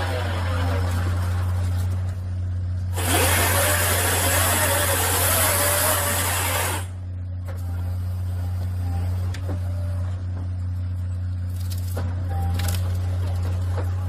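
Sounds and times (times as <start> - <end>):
hissing whirring whine: 0.0 - 14.0
machinery droning: 0.0 - 14.0.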